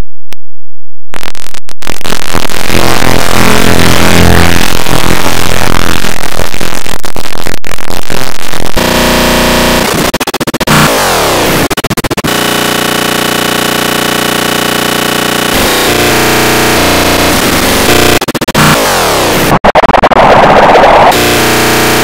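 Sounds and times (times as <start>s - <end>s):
distorted electronic music: 1.2s - 22.0s.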